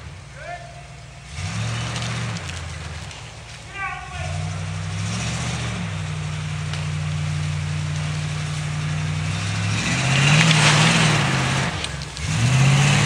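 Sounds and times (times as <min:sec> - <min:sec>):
truck engine labouring and revving: 0:00.0 - 0:13.0.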